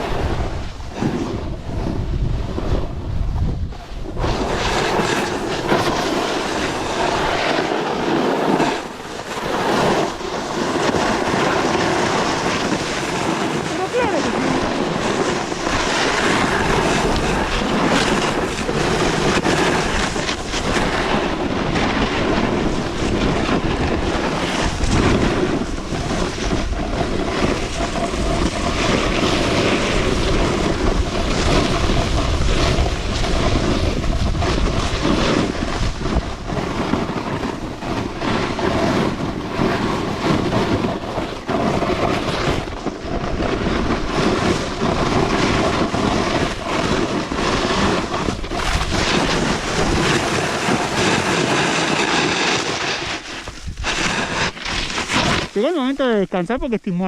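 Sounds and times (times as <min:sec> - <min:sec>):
snowboard scraping over ice: 0:00.0 - 0:57.0
wind buffeting microphone: 0:00.0 - 0:57.0.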